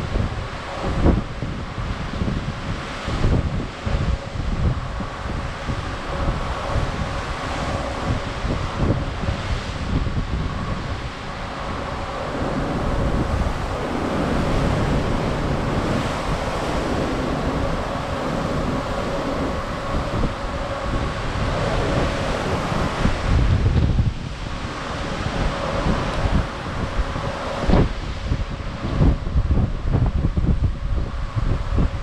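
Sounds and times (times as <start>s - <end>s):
sea swells washing past ship: 0.0s - 32.0s
wind buffeting microphone: 0.0s - 32.0s.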